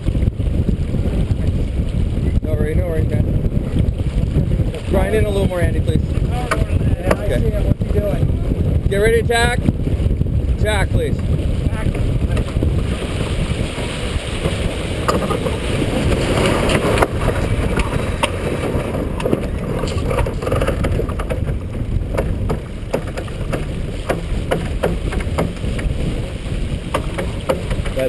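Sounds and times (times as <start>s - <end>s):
water rushing past hull: 0.0s - 28.0s
wind buffeting microphone: 0.0s - 28.0s.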